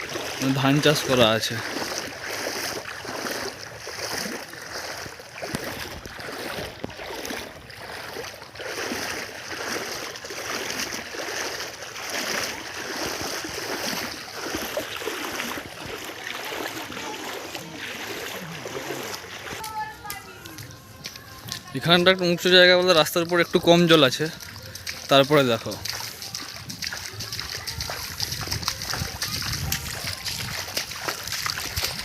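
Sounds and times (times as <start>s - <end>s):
floodwater splashing from wading: 0.0s - 32.0s.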